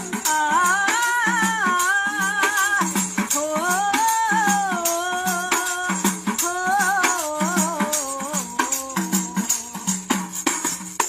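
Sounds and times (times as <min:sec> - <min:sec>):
shaken hand percussion: 0:00.0 - 0:11.0.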